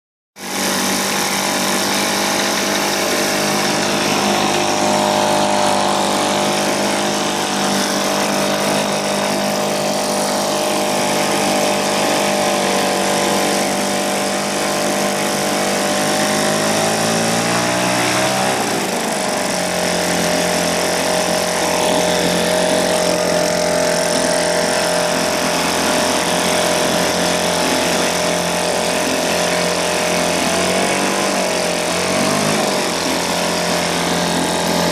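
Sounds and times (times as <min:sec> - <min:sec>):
outboard motor running: 0:00.4 - 0:34.9.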